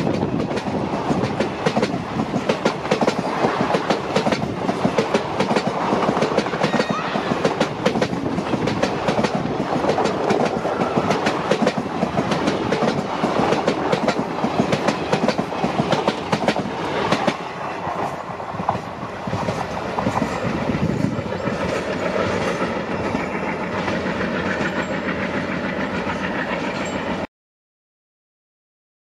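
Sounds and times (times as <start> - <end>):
train wheels clicking over rail joints: 0.0 - 27.2
train rumbling: 0.0 - 27.3.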